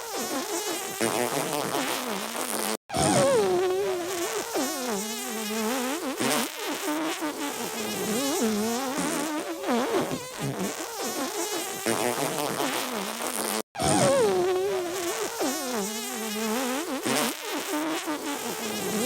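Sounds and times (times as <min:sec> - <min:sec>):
comic fart sounds: 0:00.0 - 0:19.0.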